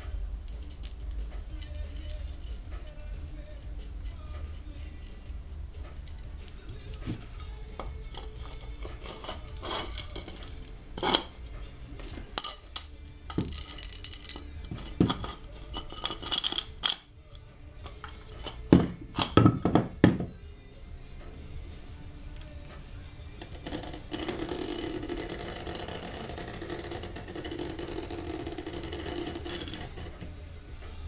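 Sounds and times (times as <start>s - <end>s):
metal parts clinking and clanking: 0.4s - 20.4s, 23.4s - 30.4s.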